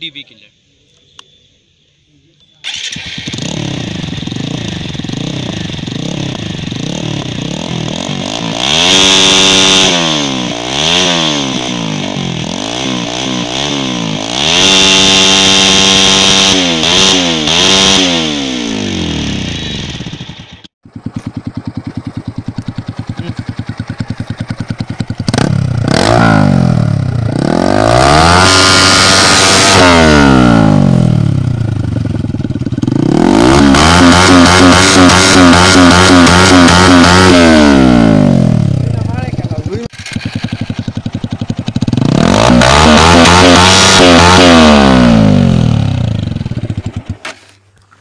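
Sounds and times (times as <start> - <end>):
motorcycle engine revving: 2.6 - 47.6.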